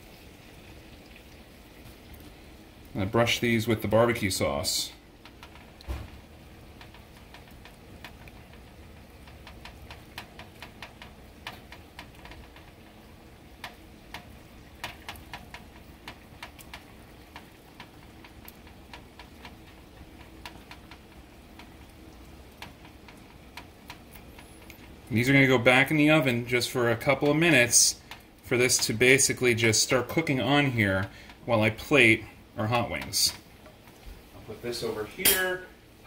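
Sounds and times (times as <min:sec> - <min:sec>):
brush tapping saucepan: 0:03.3 - 0:33.8.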